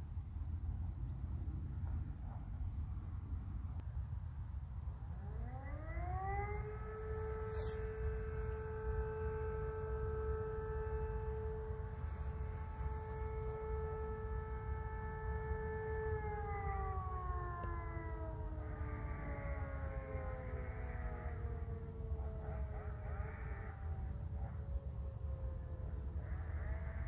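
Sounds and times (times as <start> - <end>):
civil defence siren: 0.0 - 27.0
second steady siren tone: 0.0 - 27.0.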